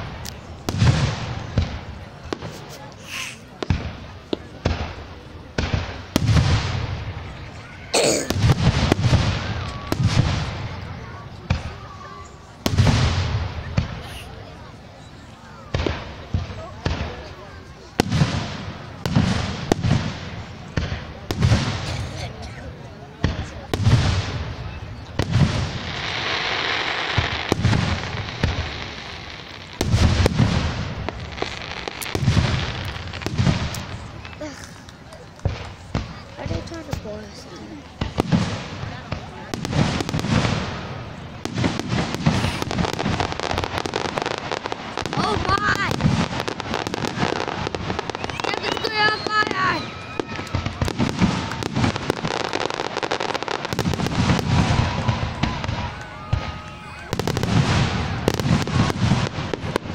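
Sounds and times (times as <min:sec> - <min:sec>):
firework cracks: 0:00.0 - 0:14.5, 0:15.5 - 0:22.4, 0:23.1 - 0:59.9
firework booms: 0:00.0 - 0:14.8, 0:15.6 - 0:22.5, 0:23.1 - 0:34.5, 0:35.4 - 0:59.9.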